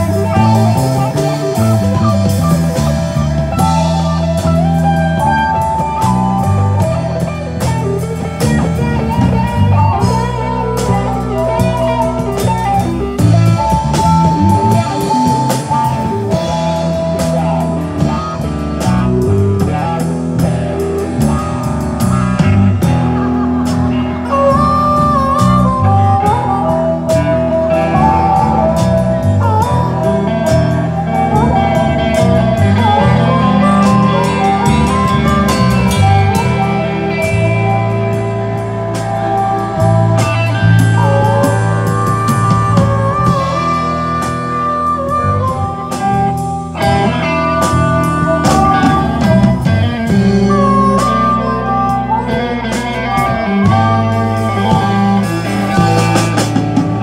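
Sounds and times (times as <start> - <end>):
electric guitar: 0.0 - 57.0
live blues-rock band: 0.0 - 57.0.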